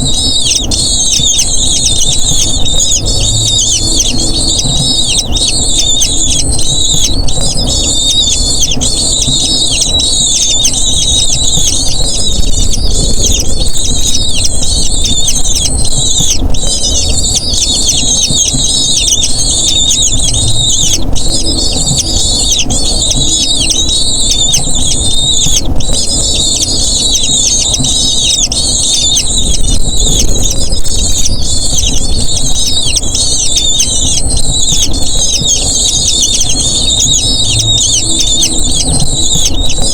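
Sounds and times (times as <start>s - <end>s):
eagle chicks squealing: 0.0s - 39.9s
low rumble: 0.0s - 39.9s.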